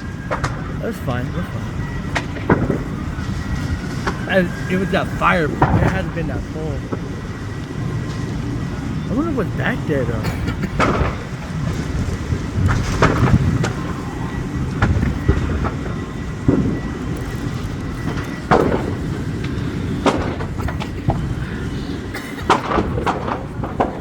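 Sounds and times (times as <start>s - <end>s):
steady low rumble: 0.6s - 22.4s.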